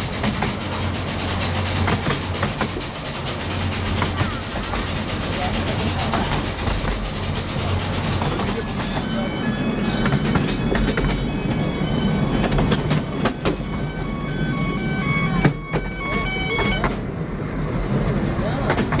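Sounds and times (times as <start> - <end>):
wheels clicking over rail joints: 0.0 - 14.0, 15.4 - 19.0
railway carriages rumbling: 0.0 - 19.0.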